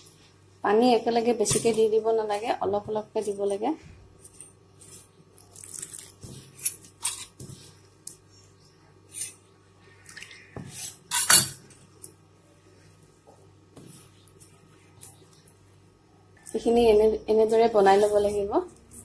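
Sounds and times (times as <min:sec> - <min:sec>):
dough squishing in a bowl: 0:00.0 - 0:19.0.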